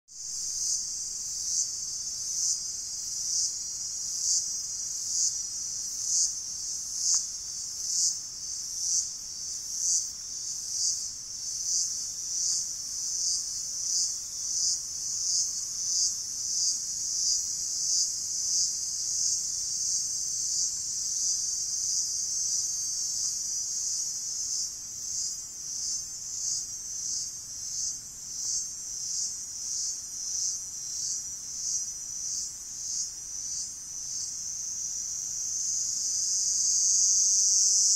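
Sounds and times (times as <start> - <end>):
cicadas buzzing: 0.2 - 37.9.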